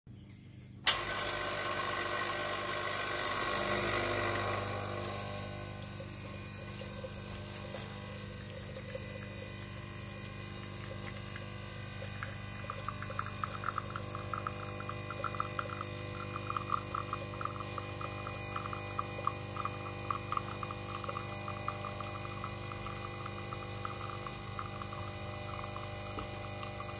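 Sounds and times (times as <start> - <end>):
espresso machine pump humming: 0.8 - 26.9.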